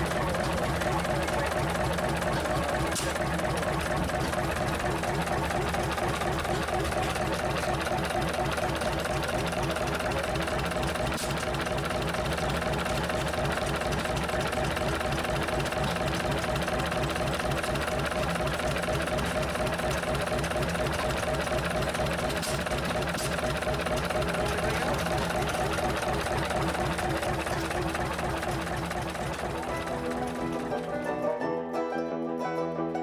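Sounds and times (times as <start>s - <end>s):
diesel engine running: 0.0s - 31.1s.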